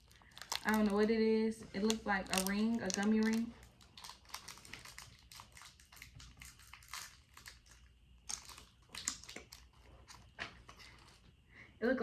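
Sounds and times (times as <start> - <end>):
plastic wrapper crinkling: 0.0 - 11.2.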